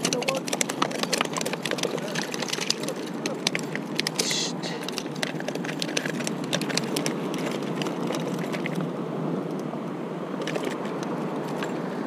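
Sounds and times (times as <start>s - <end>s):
sea waves on rocky shore: 0.0s - 12.0s
wind: 0.0s - 12.0s.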